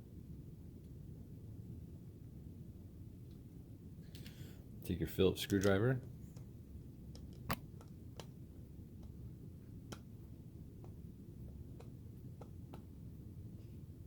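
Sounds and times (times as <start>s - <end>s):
faint room noise: 0.0s - 14.0s.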